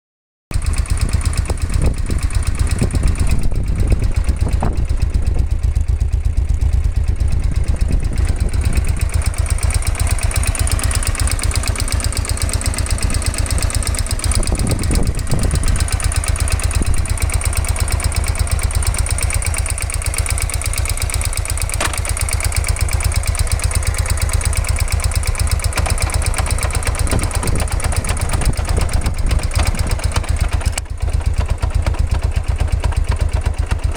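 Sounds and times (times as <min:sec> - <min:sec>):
motorcycle engine running: 0:00.5 - 0:33.9
shaft drive rattling: 0:00.6 - 0:33.9.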